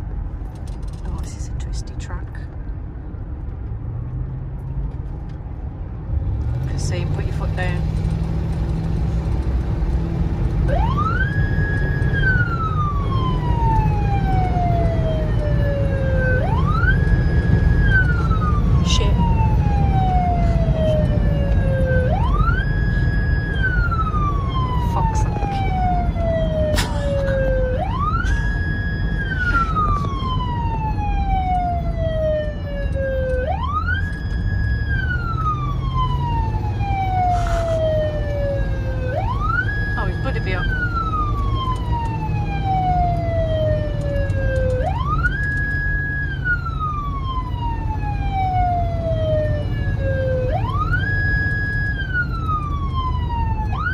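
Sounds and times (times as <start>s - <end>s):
car engine and tyre noise: 0.0s - 53.9s
police siren wailing: 10.0s - 53.9s.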